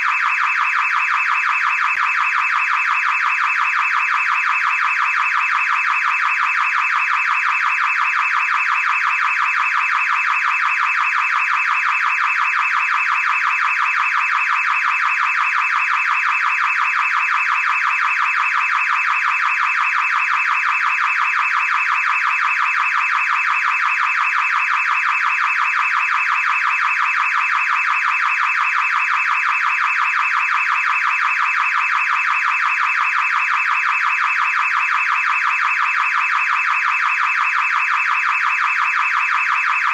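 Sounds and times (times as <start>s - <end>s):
car alarm siren pulsing: 0.0s - 39.9s.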